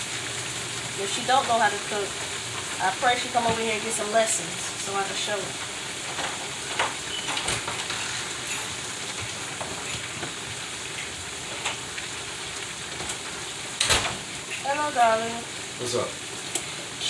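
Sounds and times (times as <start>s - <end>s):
meat frying in hot oil: 0.0s - 17.0s.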